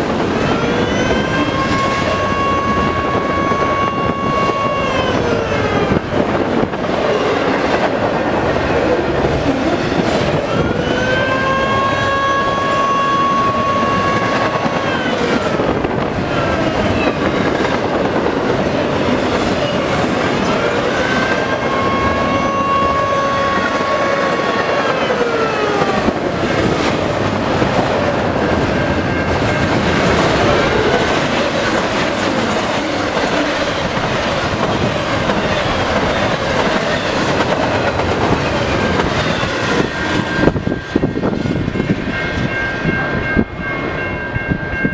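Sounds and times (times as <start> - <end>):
freight train wheels rumbling: 0.0 - 44.9.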